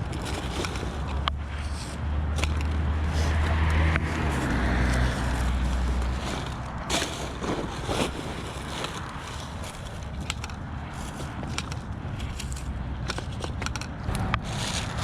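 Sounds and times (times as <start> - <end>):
heavy vehicle engine rumble: 0.0 - 15.0
crackles and snaps: 2.4 - 15.0.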